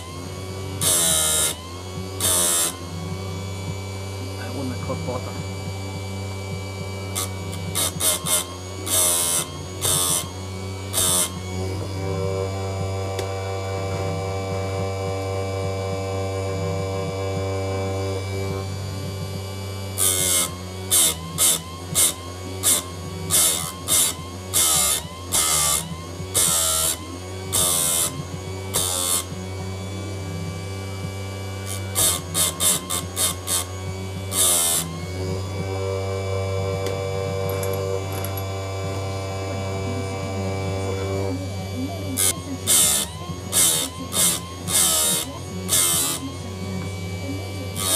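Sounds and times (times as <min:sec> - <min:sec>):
grinding wheel on chain teeth: 0:00.0 - 0:15.3, 0:15.9 - 0:35.8, 0:36.7 - 0:47.9
grinder motor running: 0:00.0 - 0:47.9.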